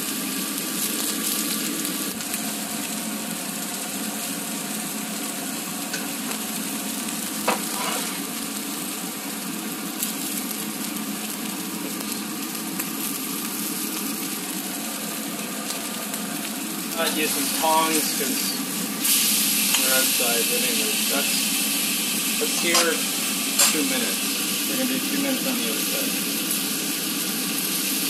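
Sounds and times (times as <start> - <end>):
steak sizzling in a pan: 0.0 - 28.0.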